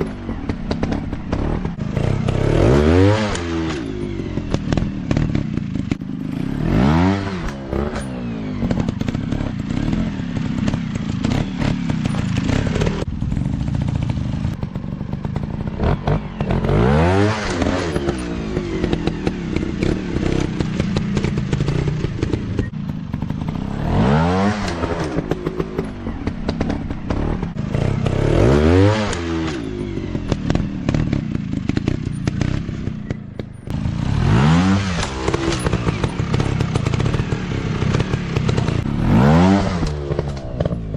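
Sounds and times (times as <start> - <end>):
bikes clattering and crackling: 0.0 - 40.9
dirt bike engines revving: 0.0 - 40.9.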